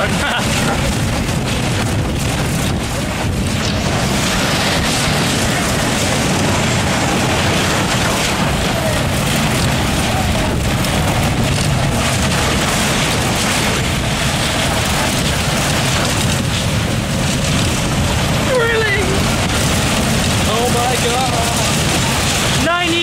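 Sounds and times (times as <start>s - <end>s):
roller coaster rumble and rattle: 0.0s - 23.0s.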